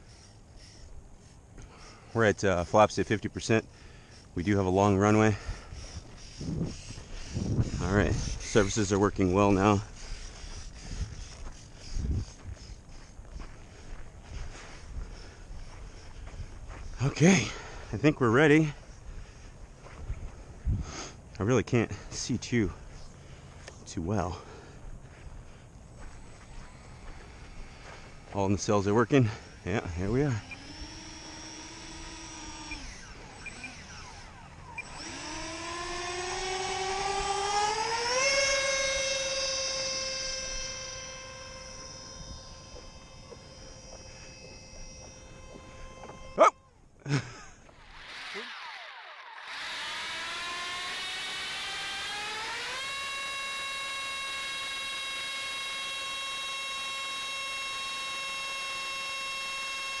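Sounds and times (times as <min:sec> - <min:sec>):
electric ducted fans whining: 0:00.0 - 1:00.0.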